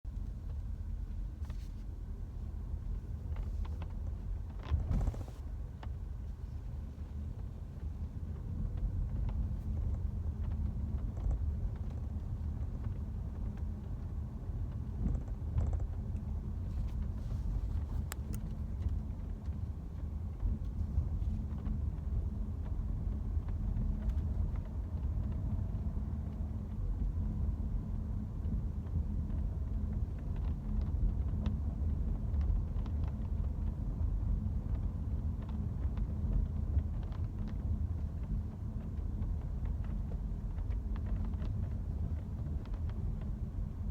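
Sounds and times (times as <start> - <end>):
road rumble inside car: 0.0 - 43.9.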